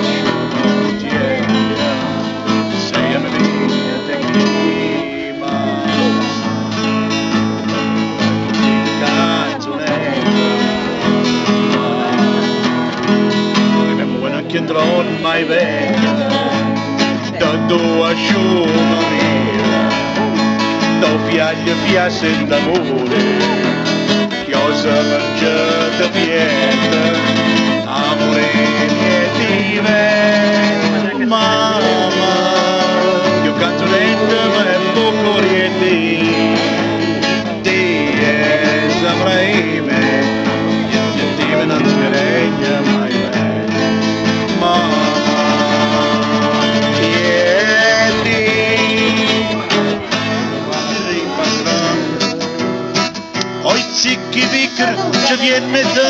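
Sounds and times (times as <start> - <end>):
acoustic guitar strumming: 0.0 - 56.0
man singing folk song: 0.0 - 56.0.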